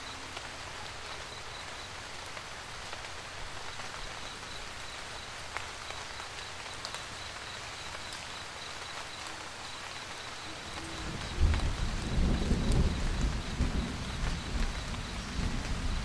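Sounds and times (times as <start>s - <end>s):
rain pattering on a vehicle roof: 0.0s - 16.0s.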